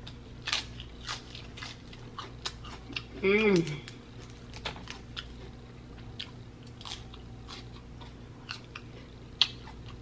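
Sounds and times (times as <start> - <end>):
chewing crunchy lettuce: 0.0 - 10.0.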